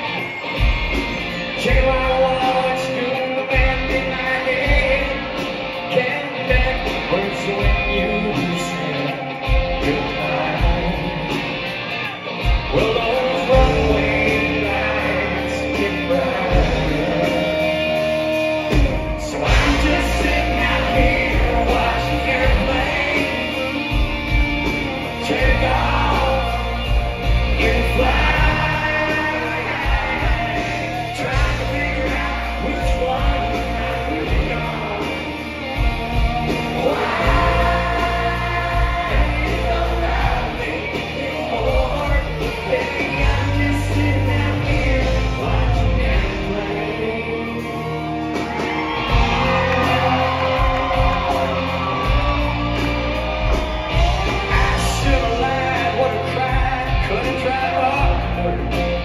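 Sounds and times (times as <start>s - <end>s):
live country-rock band: 0.0s - 59.0s
man singing: 0.0s - 59.0s.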